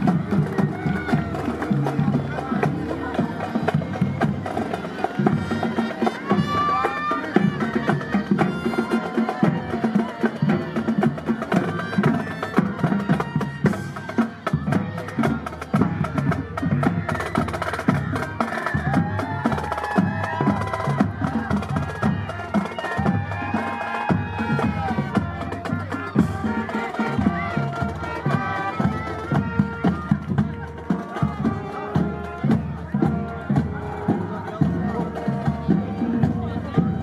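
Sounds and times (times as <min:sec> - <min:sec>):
brass melody: 0:00.0 - 0:15.1, 0:20.2 - 0:36.2
marching band playing: 0:00.0 - 0:37.0
snare and bass drums: 0:00.0 - 0:37.0.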